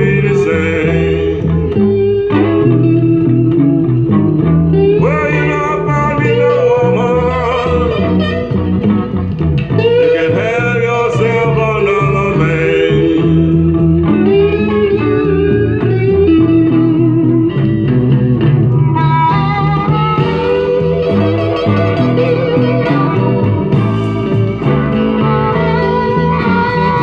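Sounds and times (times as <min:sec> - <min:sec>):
guitar song from record: 0:00.0 - 0:27.0.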